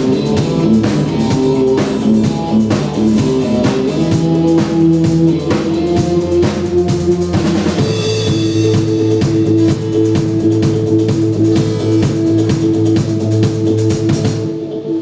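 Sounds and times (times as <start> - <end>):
drum hits: 0.0 - 14.5
steady bass line: 0.0 - 14.6.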